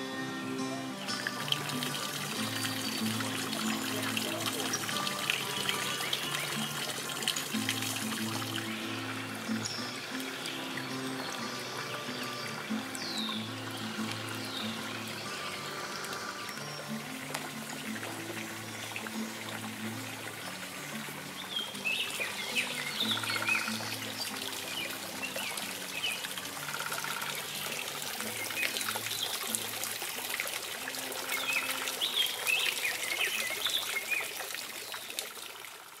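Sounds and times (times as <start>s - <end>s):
soft background music: 0.0s - 34.5s
songbirds chirping: 0.0s - 35.4s.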